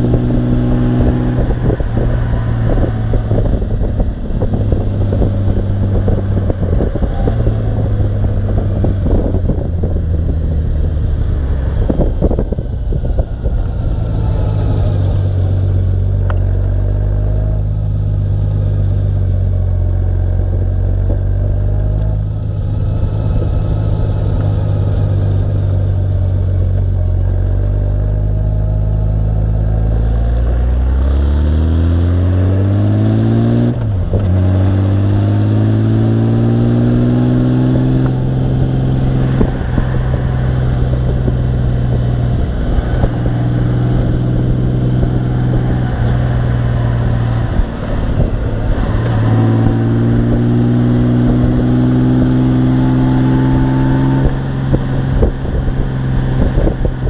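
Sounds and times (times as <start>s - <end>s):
motorcycle engine accelerating: 0.0s - 57.0s
road noise: 0.0s - 57.0s.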